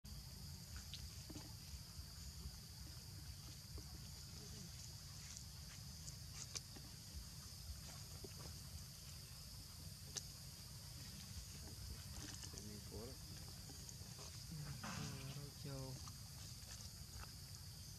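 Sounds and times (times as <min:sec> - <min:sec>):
steady high hiss: 0:00.1 - 0:17.9.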